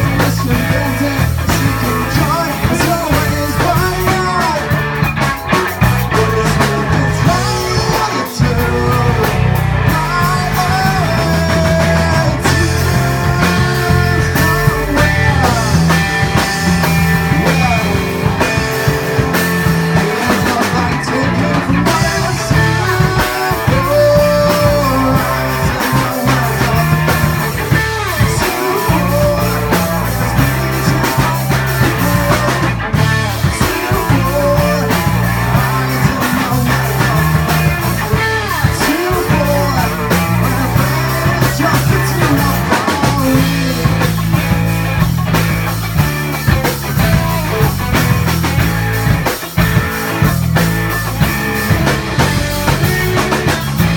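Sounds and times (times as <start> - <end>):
bass guitar: 0.0 - 53.9
drum kit: 0.0 - 53.9
electric guitar: 0.0 - 53.9.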